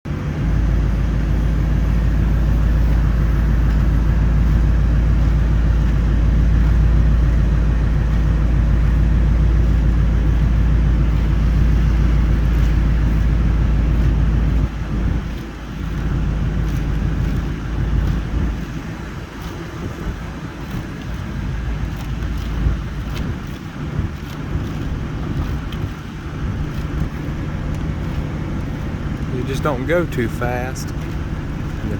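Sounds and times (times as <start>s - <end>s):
vehicle engine low rumble: 0.0s - 31.9s.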